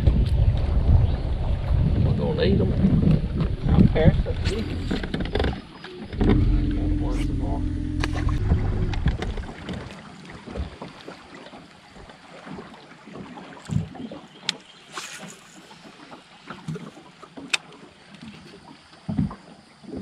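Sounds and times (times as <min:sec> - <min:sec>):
water lapping against boat hull: 0:00.0 - 0:20.0
wind: 0:00.0 - 0:20.0.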